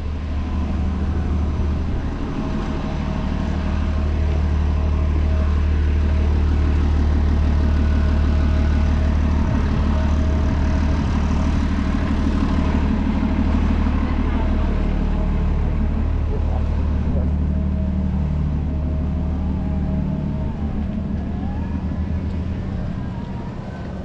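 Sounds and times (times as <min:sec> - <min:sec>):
bus diesel engine humming: 0:00.0 - 0:24.0.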